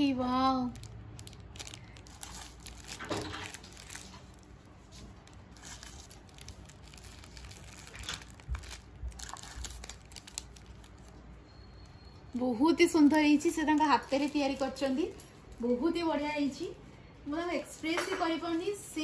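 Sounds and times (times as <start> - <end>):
plastic packaging crinkling: 0.0 - 16.4.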